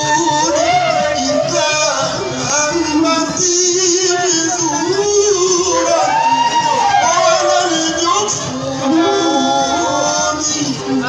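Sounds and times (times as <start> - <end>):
men singing a devotional chant: 0.0 - 11.0.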